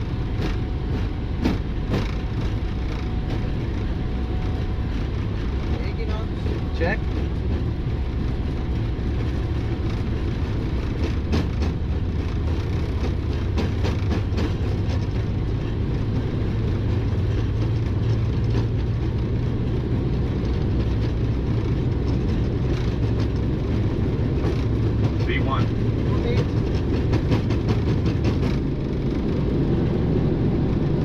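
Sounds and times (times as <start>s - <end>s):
jet engines roaring: 0.0s - 31.0s
wheels rumbling on runway: 0.0s - 31.0s.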